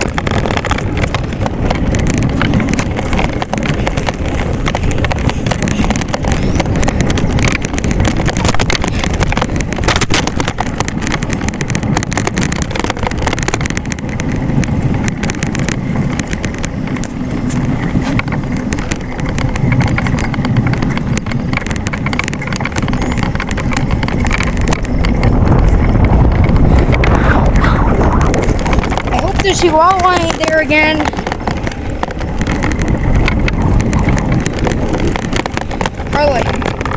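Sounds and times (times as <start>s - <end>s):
bicycle rattling clicks: 0.0s - 36.9s
wind and road rumble: 0.0s - 36.9s.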